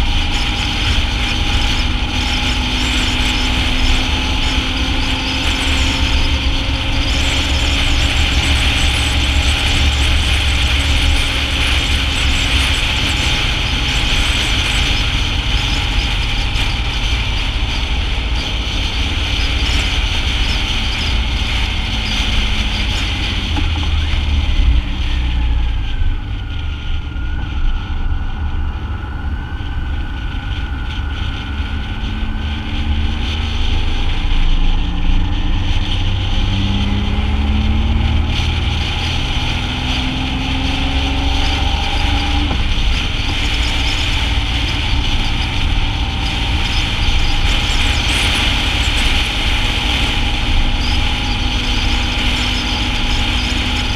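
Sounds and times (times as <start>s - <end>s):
motorcycle engine running: 0.0s - 53.9s
wind rushing on microphone: 0.0s - 53.9s.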